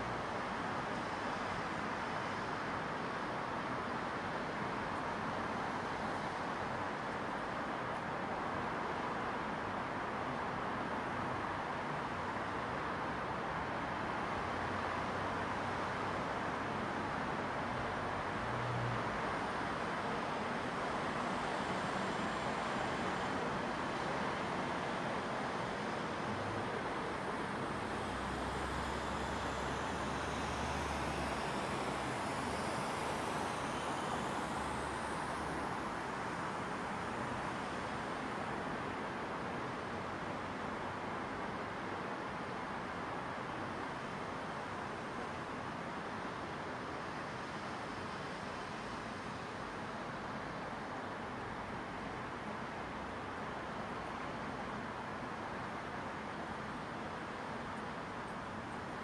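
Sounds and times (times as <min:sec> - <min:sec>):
distant traffic noise: 0:00.0 - 0:59.0
distant urban hum: 0:00.0 - 0:59.0.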